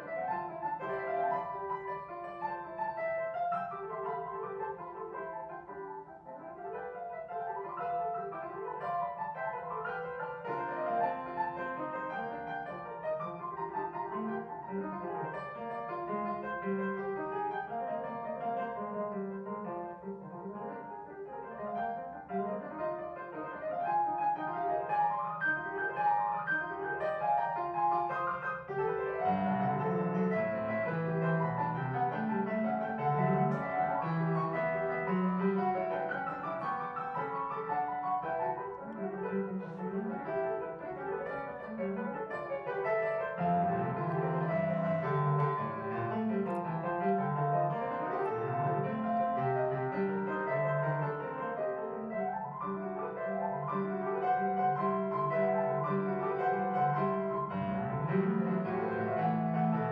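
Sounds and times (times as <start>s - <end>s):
classical piano music: 0.0s - 59.9s.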